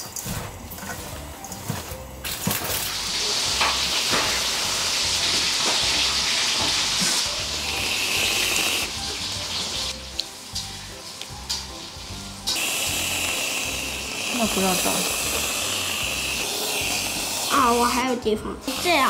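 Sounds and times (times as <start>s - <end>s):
crackers sizzling in hot oil: 0.0s - 19.0s.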